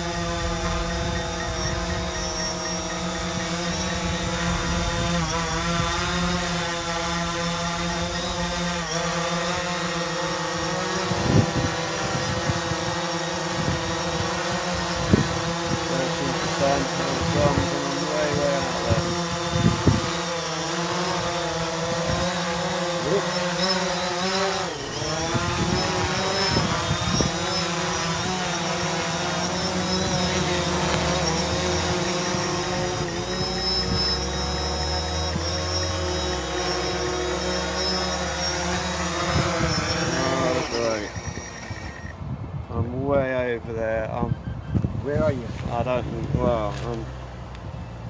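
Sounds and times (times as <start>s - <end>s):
wind rumble on microphone: 0.0s - 23.2s, 24.0s - 48.0s
steady motor hum: 0.0s - 43.7s
low wind thumps: 0.0s - 46.7s
drone propellers whining: 0.0s - 48.0s.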